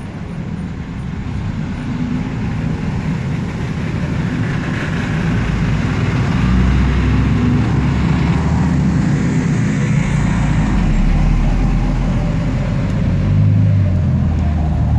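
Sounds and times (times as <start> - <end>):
vehicle engine rumble: 0.0 - 14.9.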